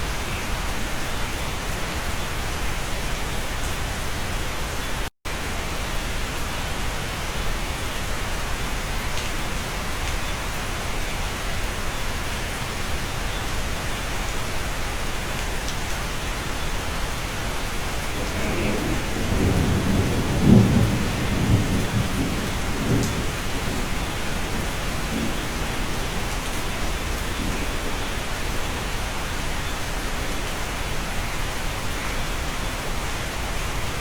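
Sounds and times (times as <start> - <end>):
heavy rain heard indoors: 0.0 - 34.0.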